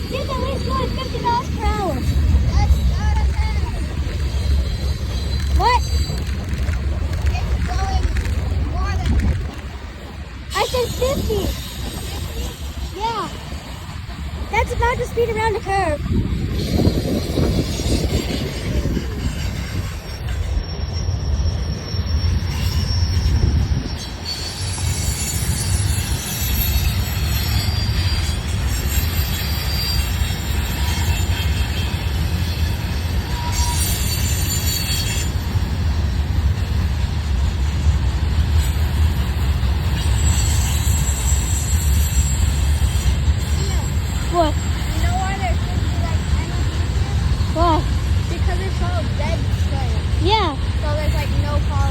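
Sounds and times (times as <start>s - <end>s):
wheel squeal: 0.0s - 9.6s, 10.4s - 51.9s
train rumbling: 0.0s - 51.9s.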